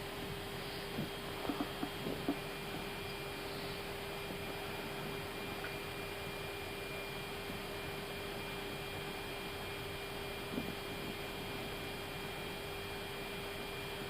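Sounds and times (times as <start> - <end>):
cockpit hum and hiss: 0.0 - 14.0.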